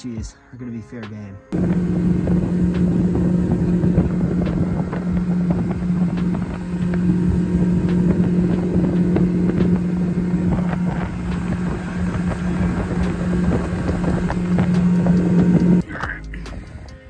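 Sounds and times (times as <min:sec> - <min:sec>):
outboard motor running: 0:01.6 - 0:15.8
wind rushing over microphone: 0:01.6 - 0:15.8.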